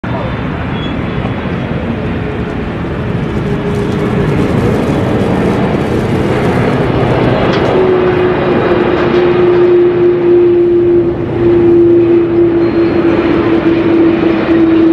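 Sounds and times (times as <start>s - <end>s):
jet engines roaring: 0.0s - 14.9s
steady whine: 0.0s - 14.9s.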